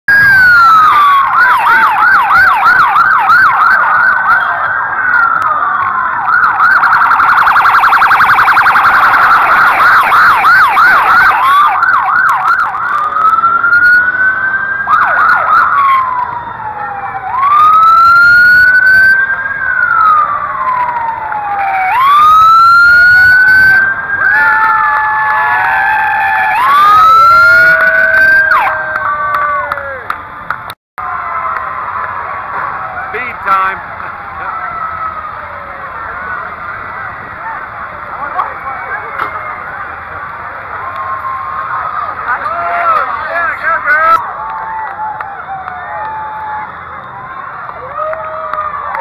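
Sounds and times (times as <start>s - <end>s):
police motorcycle sirens: 0.1s - 49.0s.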